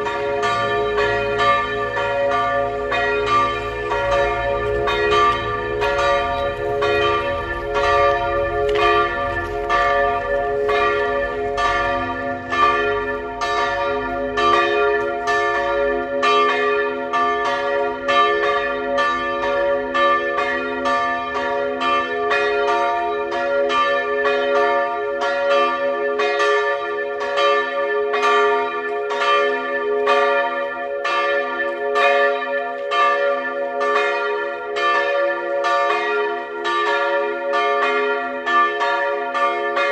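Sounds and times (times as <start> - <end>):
church bells ringing in peal: 0.0 - 39.9.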